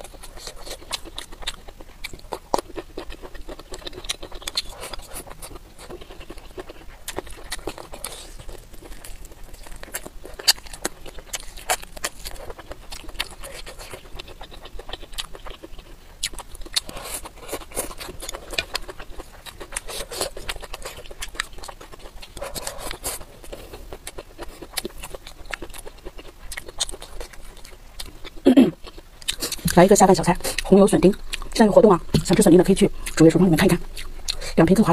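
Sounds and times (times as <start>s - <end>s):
close chewing with wet smacks: 0.0s - 34.9s.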